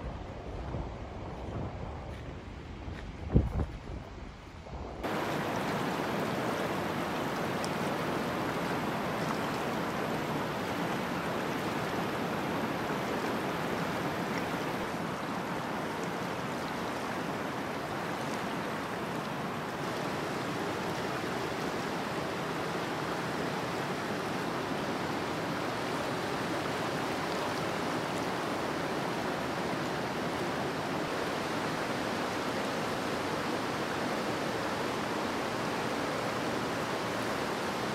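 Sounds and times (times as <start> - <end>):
river water rushing over rapids: 5.0 - 37.9.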